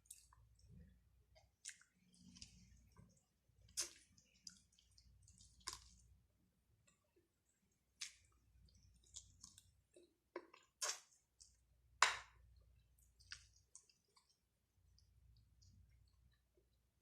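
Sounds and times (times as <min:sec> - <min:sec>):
faint chewing: 0:00.0 - 0:06.2, 0:06.8 - 0:11.6, 0:12.6 - 0:16.8.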